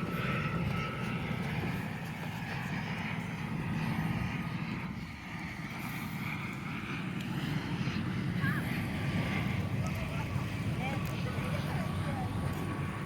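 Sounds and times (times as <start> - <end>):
airplane rumbling overhead: 0.0 - 13.0.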